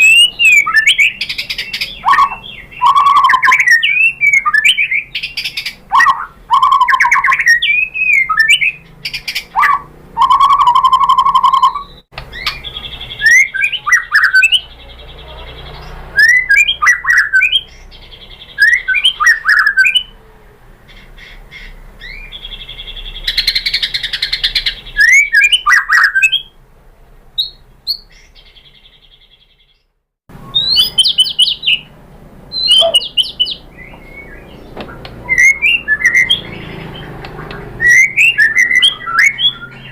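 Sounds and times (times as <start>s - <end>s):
songbird whistling and trilling: 0.0s - 14.7s, 15.6s - 20.2s, 21.2s - 26.6s, 27.4s - 31.9s, 32.5s - 39.9s.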